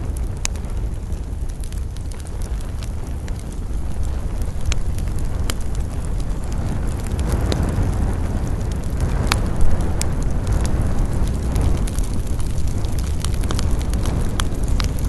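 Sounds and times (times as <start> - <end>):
campfire low rumble: 0.0 - 15.0
wood crackles and pops: 0.0 - 15.0.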